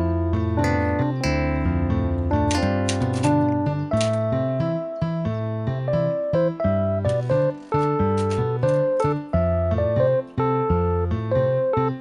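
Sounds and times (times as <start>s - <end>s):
low bass line: 0.0s - 12.0s
plucked guitar-like melody: 0.0s - 12.0s.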